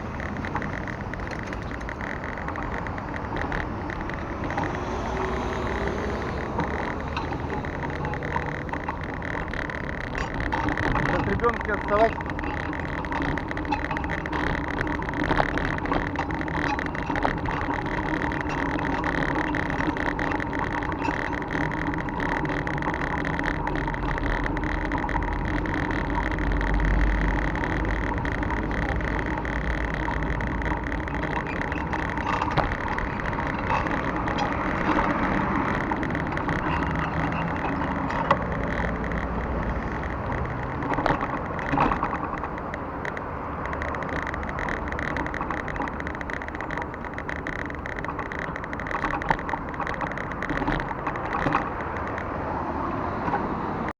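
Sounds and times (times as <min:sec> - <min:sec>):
bicycle rolling rush: 0:00.0 - 0:53.9
bike clicks and rattles: 0:00.0 - 0:53.9.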